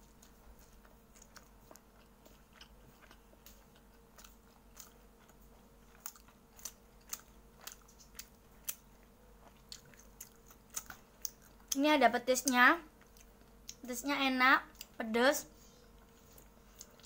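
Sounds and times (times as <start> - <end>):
crunchy food being chewed: 0.0 - 13.9, 14.6 - 15.0, 15.7 - 17.0.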